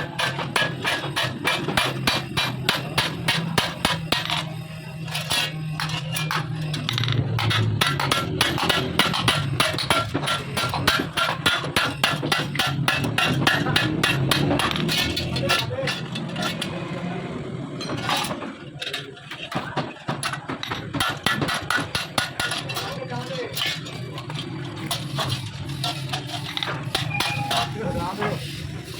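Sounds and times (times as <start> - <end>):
hammer striking sheet metal: 0.0 - 16.7, 20.3 - 23.9, 24.8 - 28.9.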